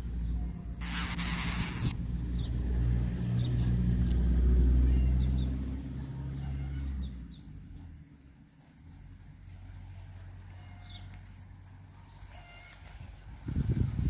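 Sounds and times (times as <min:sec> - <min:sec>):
passing vehicle engine hum: 0:00.0 - 0:12.3.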